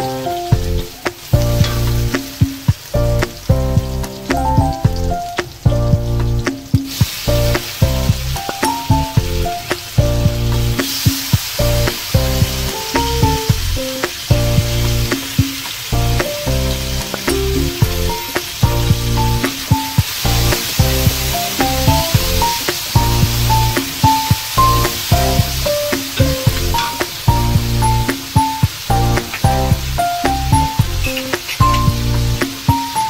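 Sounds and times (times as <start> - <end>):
background music with steady beat: 0.0 - 33.0
onion and garlic sizzling in oil: 0.0 - 33.0.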